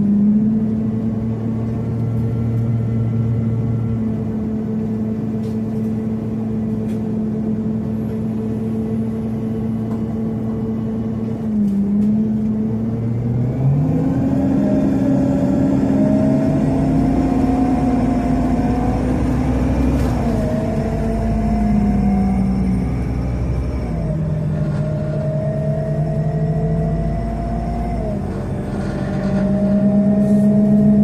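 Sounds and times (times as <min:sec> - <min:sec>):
bus engine running: 0:00.0 - 0:31.0
rising engine whine: 0:00.0 - 0:31.0.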